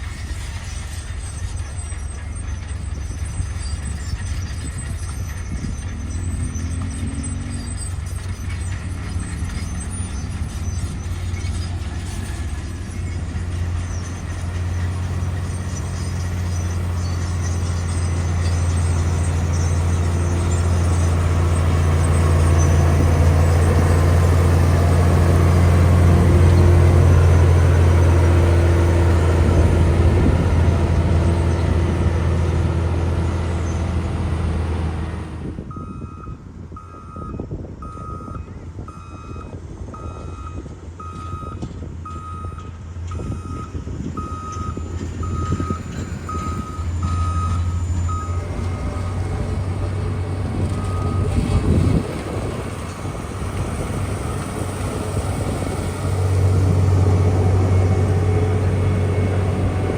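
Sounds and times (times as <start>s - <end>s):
heavy machine diesel engine: 0.0s - 59.9s.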